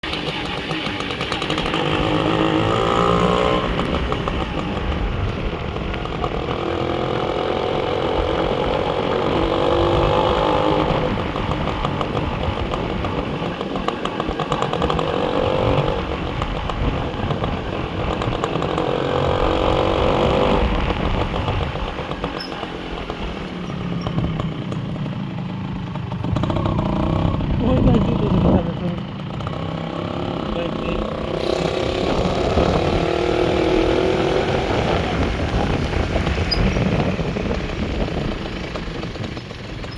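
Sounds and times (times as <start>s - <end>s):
motorcycle engine shifting gears: 0.0s - 39.9s
road and wind noise: 0.0s - 39.9s.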